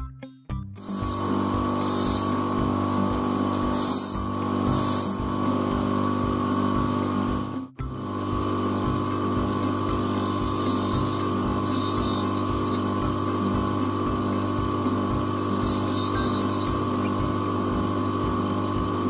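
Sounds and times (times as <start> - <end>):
bench grinder humming: 0.8 - 19.0
steel grinding on wheel: 0.8 - 19.0.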